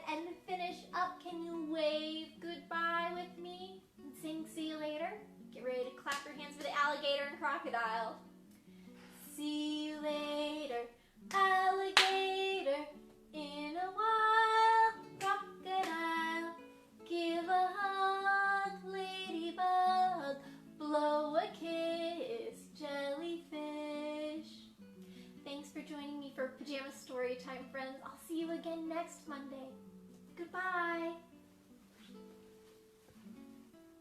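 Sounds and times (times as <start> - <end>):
woman singing: 0.0 - 8.3, 9.2 - 24.7, 25.4 - 29.8, 30.4 - 31.4.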